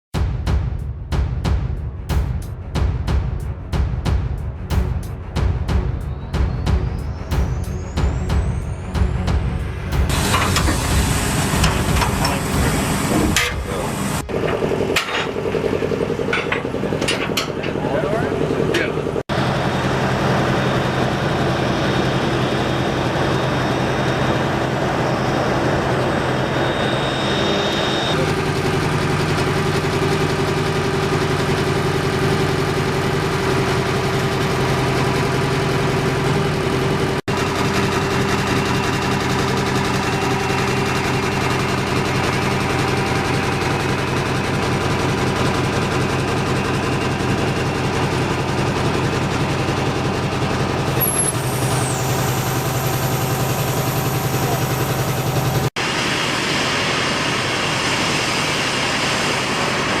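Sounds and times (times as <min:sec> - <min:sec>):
engines humming: 0:02.4 - 1:00.0.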